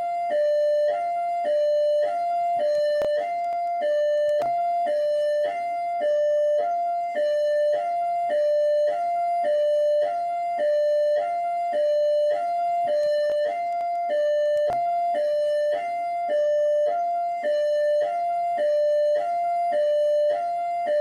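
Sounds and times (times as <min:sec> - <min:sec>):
hi-lo police siren: 0:00.0 - 0:21.0.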